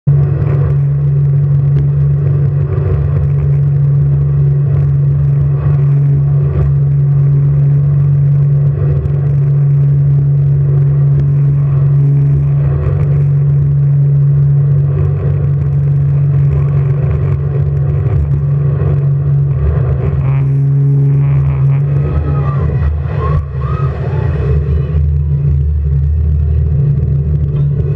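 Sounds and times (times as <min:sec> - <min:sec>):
jet boat engine running: 0:00.0 - 0:27.9.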